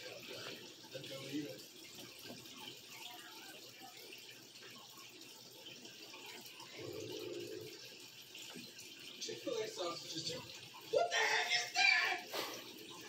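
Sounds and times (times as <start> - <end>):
aquarium filter water trickling: 0.0 - 13.0.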